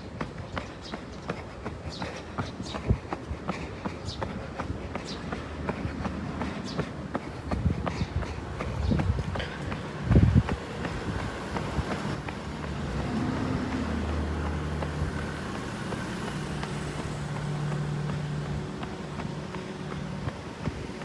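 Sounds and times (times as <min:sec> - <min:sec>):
light footsteps: 0:00.0 - 0:21.0
street ambience: 0:00.0 - 0:21.0
vehicle engine humming: 0:00.0 - 0:21.0.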